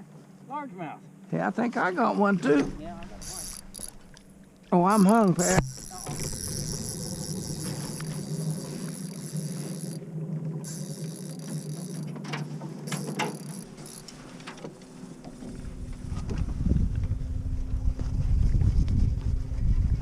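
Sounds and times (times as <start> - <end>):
small boat motor humming: 2.8 - 20.0.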